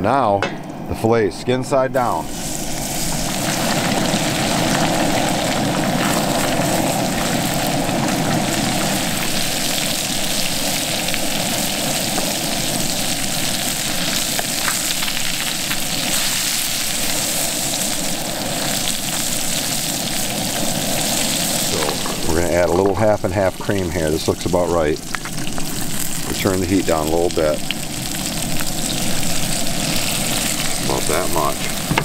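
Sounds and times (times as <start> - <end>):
fish sizzling in a hot pan: 2.1 - 22.7, 23.6 - 32.0.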